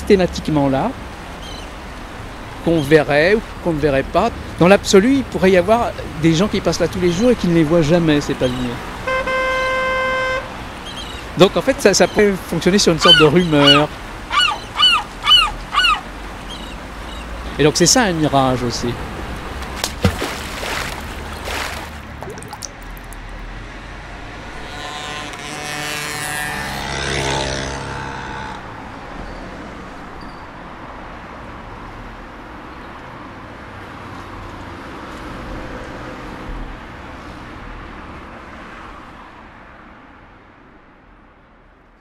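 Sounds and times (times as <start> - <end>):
passing road traffic: 0.0 - 41.3.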